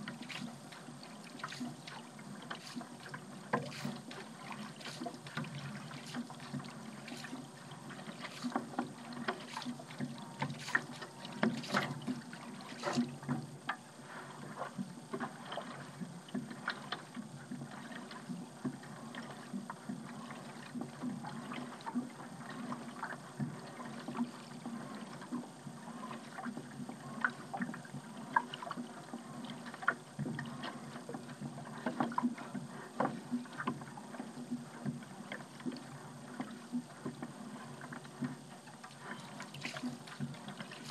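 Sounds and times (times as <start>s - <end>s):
paddle dipping through water: 0.0s - 40.9s
water lapping against craft: 0.0s - 40.9s.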